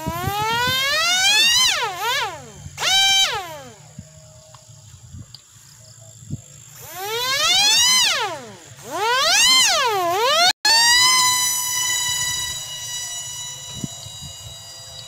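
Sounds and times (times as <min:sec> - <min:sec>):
electric motor propeller whine: 0:00.0 - 0:15.0.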